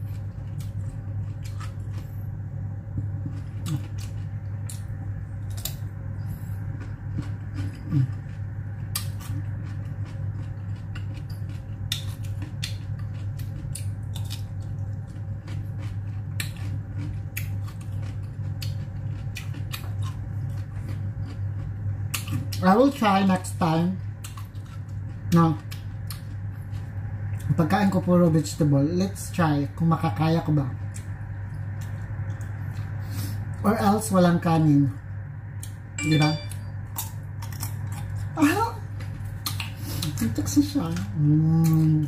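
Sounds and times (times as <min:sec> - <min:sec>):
person chewing cucumber: 0:00.0 - 0:27.6, 0:30.4 - 0:33.6, 0:35.5 - 0:42.0
steady low hum: 0:00.0 - 0:42.0.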